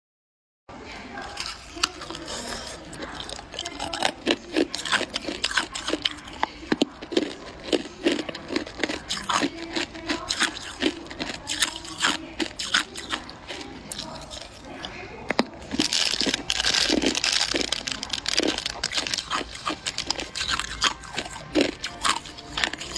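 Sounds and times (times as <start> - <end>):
ice cubes crunching when chewed: 1.1 - 22.9.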